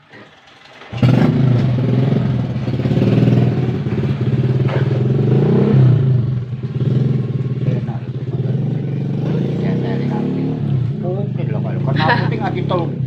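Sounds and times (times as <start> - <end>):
motorcycle engine starting: 0.0 - 13.0.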